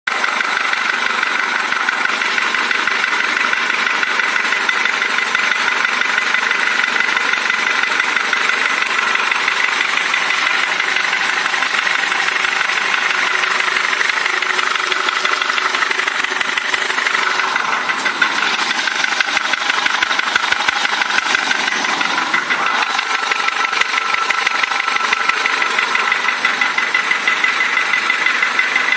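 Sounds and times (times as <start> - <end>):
engine running: 0.1 - 28.9
rapid steady engine knock: 0.1 - 28.9.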